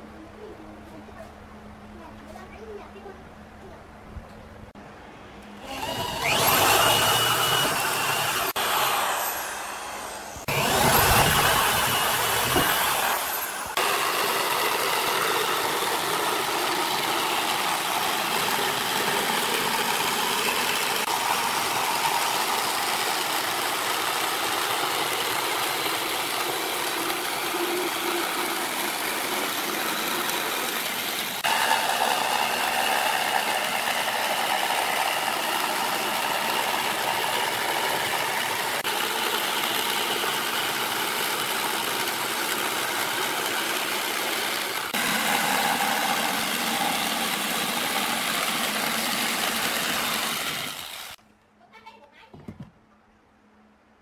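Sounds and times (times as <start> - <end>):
jigsaw cutting wood: 5.6 - 51.2.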